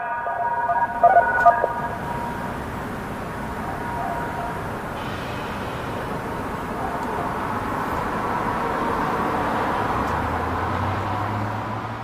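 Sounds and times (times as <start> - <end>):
rotating warning siren: 0.0 - 11.3
low engine hum: 0.6 - 12.0.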